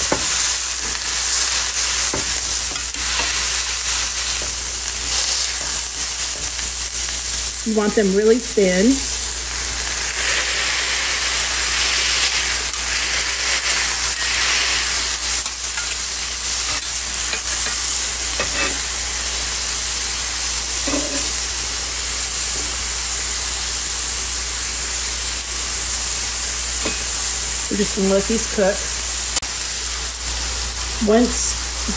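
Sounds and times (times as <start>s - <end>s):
meat and onions sizzling in skillet: 0.0s - 31.9s.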